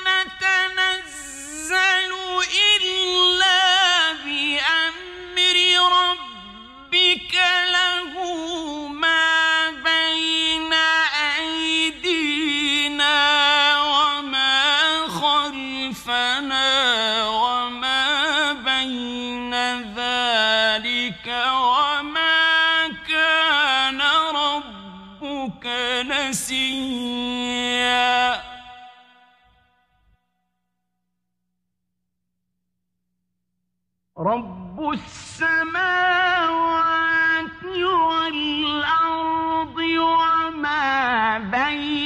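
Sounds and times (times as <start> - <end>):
man chanting melodic recitation: 0.0 - 29.1, 34.2 - 42.0.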